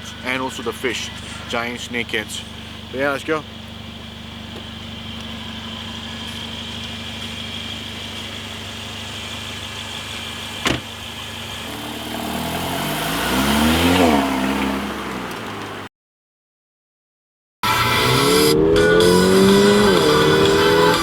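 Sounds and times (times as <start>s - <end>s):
car engine running: 0.0s - 15.9s, 17.6s - 21.0s
engine revving: 0.0s - 15.9s, 17.6s - 21.0s.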